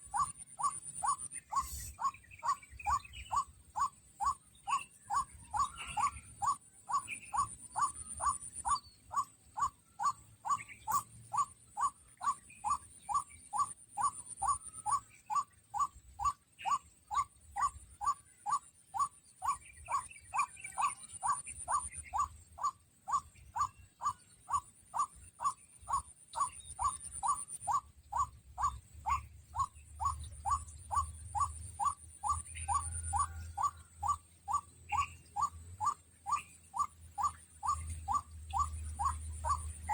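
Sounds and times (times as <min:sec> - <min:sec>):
bird calling repeated notes: 0:00.0 - 0:39.9.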